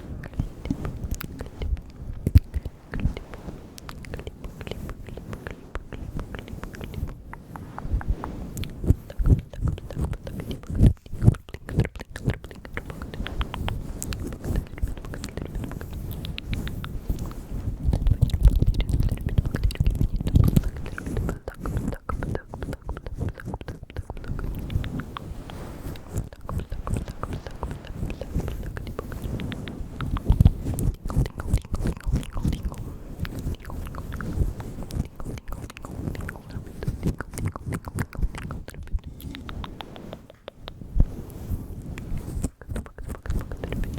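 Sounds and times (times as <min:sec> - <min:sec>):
wet mouth clicks and smacks: 0:00.2 - 0:40.8, 0:41.9 - 0:43.9.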